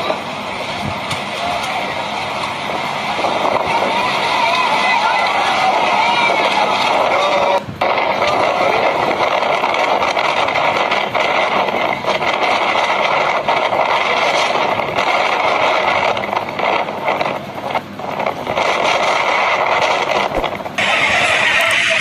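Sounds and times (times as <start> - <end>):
heavy rain: 0.0 - 17.5, 18.5 - 22.0
wind: 0.0 - 22.0.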